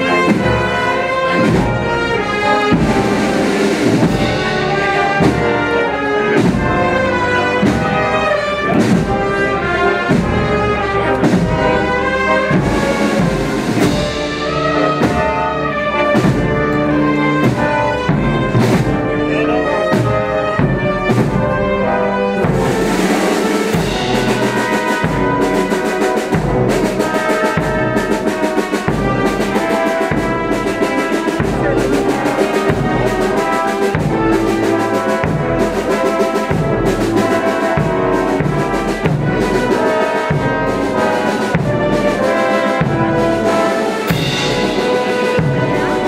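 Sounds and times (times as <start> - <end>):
brass band playing march: 0.0 - 46.0.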